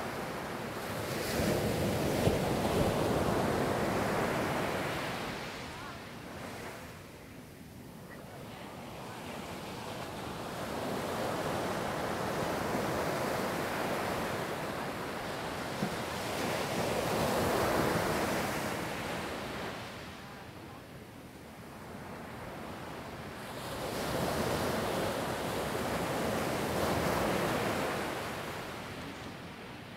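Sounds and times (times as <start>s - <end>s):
ocean waves breaking on beach: 0.0s - 29.9s.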